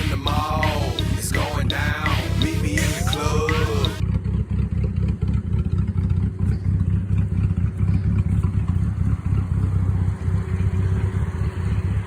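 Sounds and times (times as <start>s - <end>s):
car engine choppy idle: 0.0s - 12.0s.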